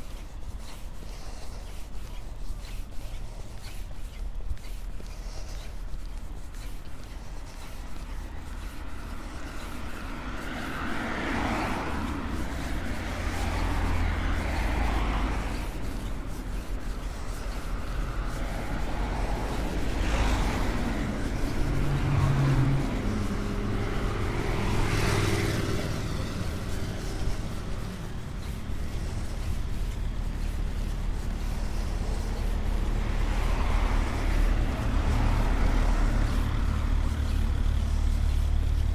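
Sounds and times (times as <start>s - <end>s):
cars passing: 0.0s - 38.9s.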